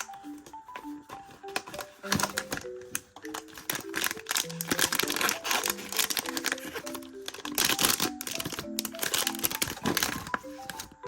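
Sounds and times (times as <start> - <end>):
packaging crinkling and tearing: 0.0 - 11.0
soft background music: 0.0 - 11.0.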